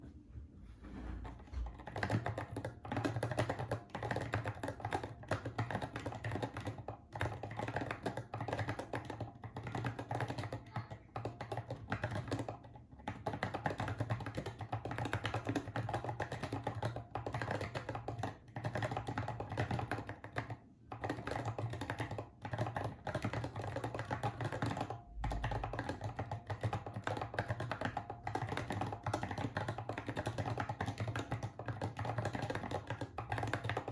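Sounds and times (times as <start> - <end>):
keyboard typing: 1.2 - 33.9.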